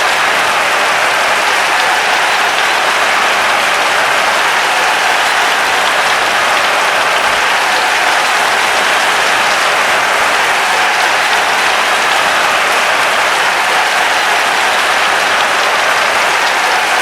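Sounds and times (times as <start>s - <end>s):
cheering: 0.0s - 17.0s
crowd applauding: 0.0s - 17.0s.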